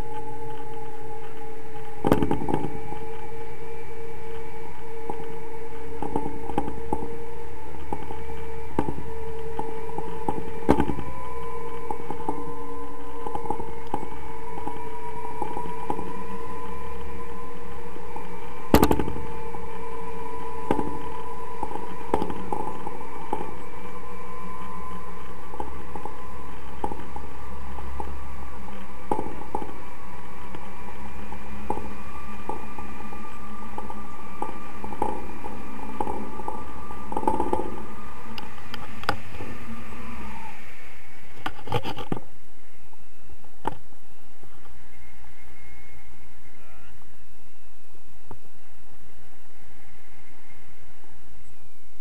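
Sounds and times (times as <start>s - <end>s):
constant hum: 0.0s - 52.0s
wind noise on microphone: 0.0s - 52.0s.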